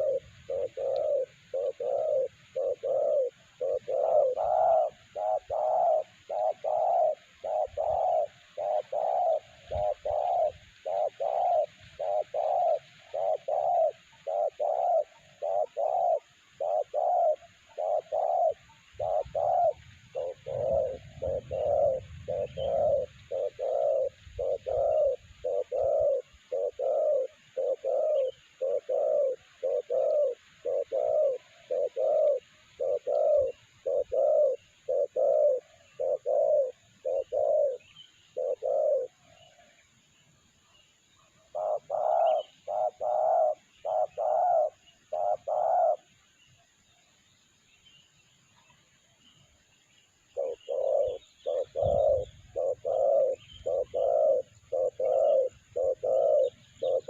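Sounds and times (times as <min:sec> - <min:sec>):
dove cooing: 0:00.0 - 0:40.1, 0:40.7 - 0:47.0, 0:50.2 - 0:57.0.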